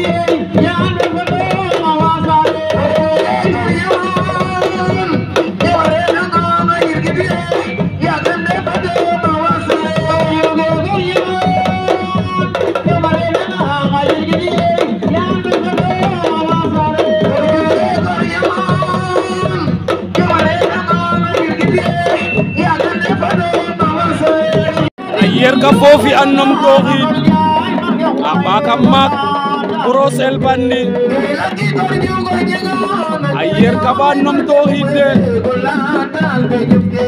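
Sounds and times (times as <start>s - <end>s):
hand drums in fast rhythm: 0.0s - 37.0s
voices singing: 0.0s - 37.0s.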